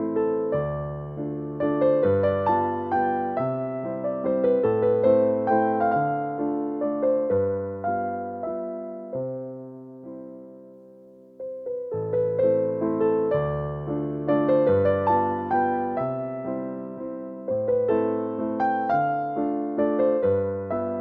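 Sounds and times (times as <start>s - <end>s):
gentle electric piano melody: 0.0s - 21.0s.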